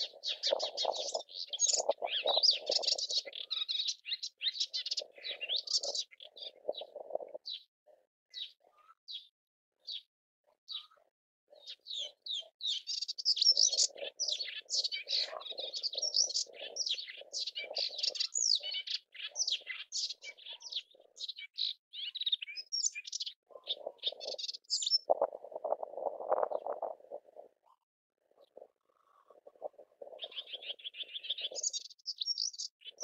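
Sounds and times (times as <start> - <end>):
warbler singing: 0.0 - 7.7, 8.3 - 10.1, 10.7 - 25.2, 28.4 - 33.0.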